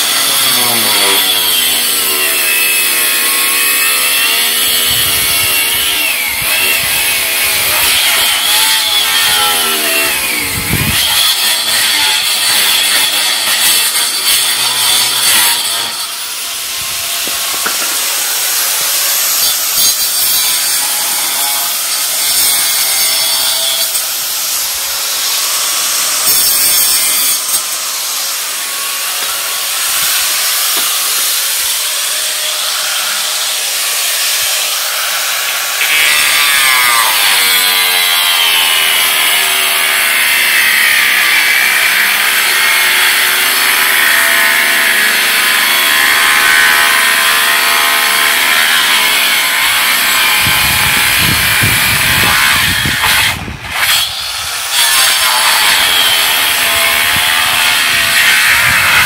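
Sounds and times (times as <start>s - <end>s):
angle grinder cutting wood: 0.0s - 59.0s.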